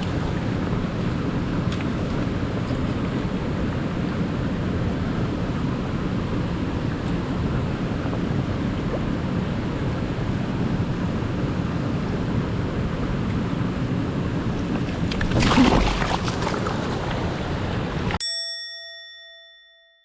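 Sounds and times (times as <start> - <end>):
stream rushing: 0.0 - 18.2.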